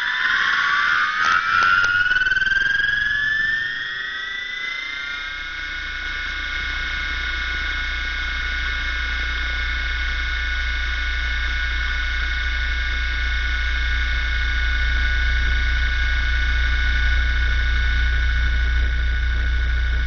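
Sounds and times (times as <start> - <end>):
low hum: 0.0 - 20.0
model helicopter whine: 0.0 - 20.0.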